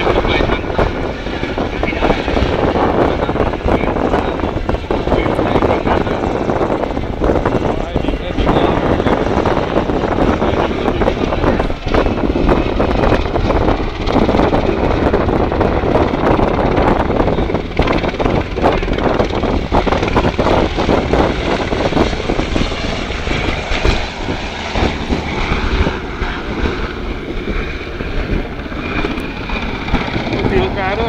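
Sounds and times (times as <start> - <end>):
helicopter engine noise: 0.0 - 31.0
helicopter rotor blades chopping: 0.0 - 31.0.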